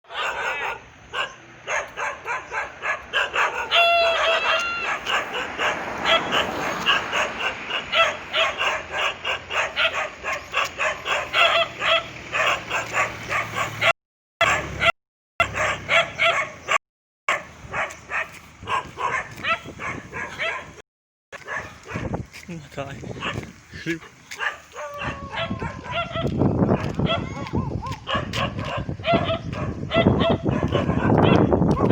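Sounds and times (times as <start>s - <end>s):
dog yelping: 0.1s - 20.7s, 24.4s - 26.3s, 27.0s - 31.9s
dog barking: 0.1s - 20.8s, 21.4s - 22.1s, 23.2s - 31.9s.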